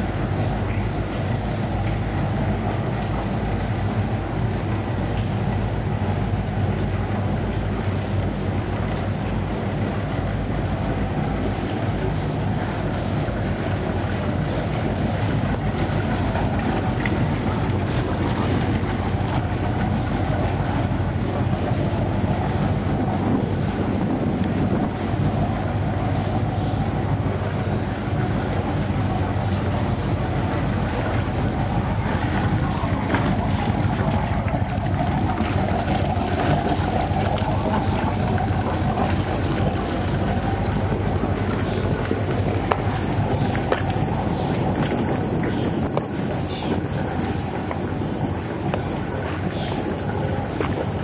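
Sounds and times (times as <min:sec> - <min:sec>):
low continuous hum: 0:00.0 - 0:51.0
wind buffeting microphone: 0:00.0 - 0:51.0.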